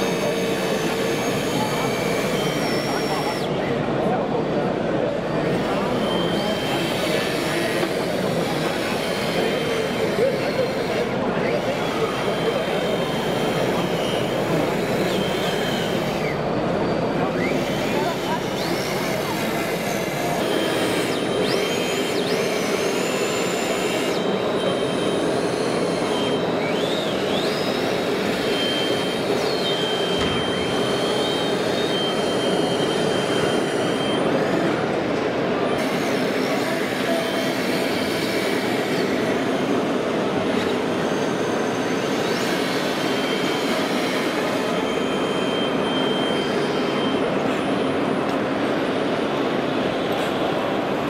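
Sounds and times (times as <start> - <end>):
toy motors whining: 0.0 - 3.5, 5.5 - 34.9, 35.7 - 48.0.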